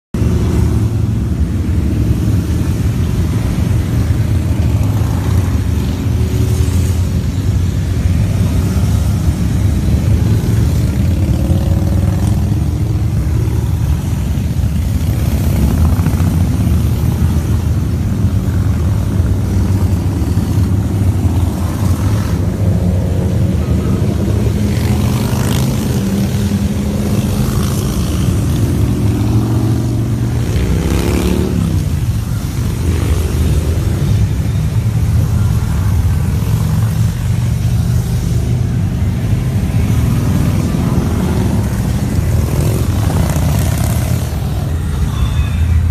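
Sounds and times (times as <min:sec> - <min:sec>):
motorcycles riding past: 0:00.2 - 0:45.9.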